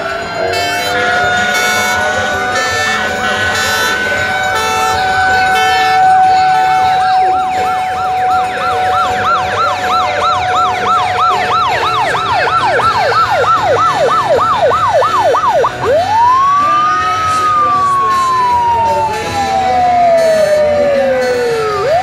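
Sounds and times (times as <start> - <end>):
fire engine siren yelp: 0.0 - 22.0
siren wail rising and falling: 0.0 - 22.0
steady siren tone: 0.0 - 22.0.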